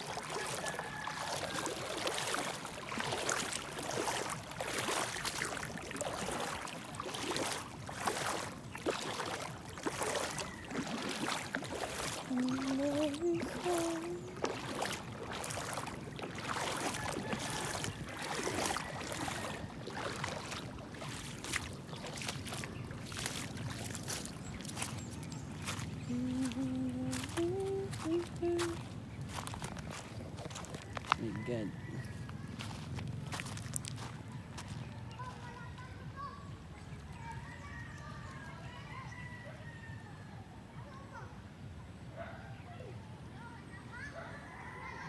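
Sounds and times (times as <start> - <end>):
water splashing and sloshing: 0.0 - 38.9.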